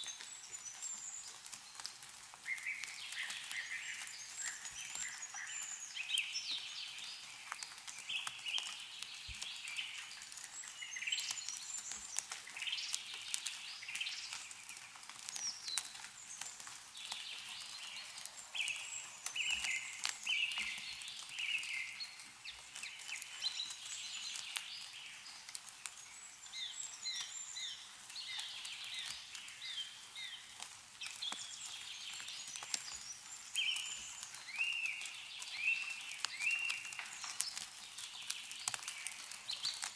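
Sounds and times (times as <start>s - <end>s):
meltwater dripping: 0.0s - 39.9s
songbirds chirping: 0.0s - 39.9s.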